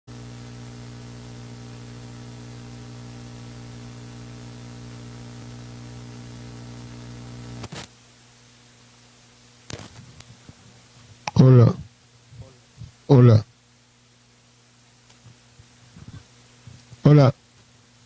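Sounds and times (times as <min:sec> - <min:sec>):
electrical mains hum with hiss: 0:00.1 - 0:18.0.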